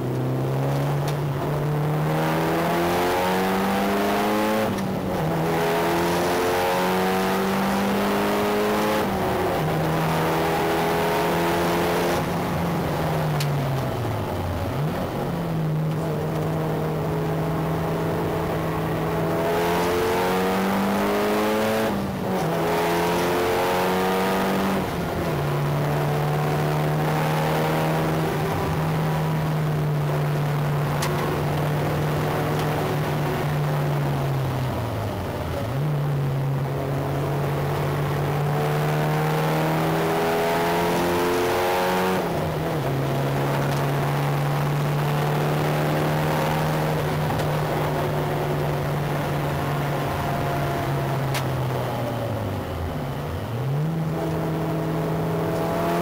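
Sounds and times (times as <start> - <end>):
car engine revving hard: 0.0 - 52.4, 53.1 - 56.0.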